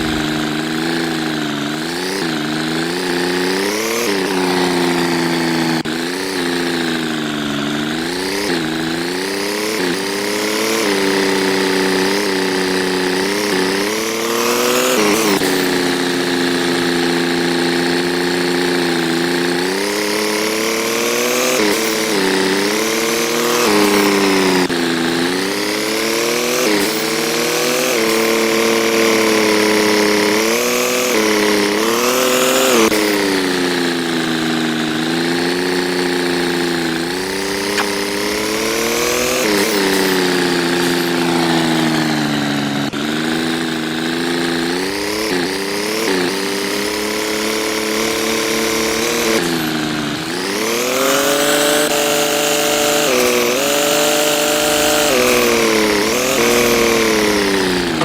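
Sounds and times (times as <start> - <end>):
engine revving up and down: 0.0 - 58.0.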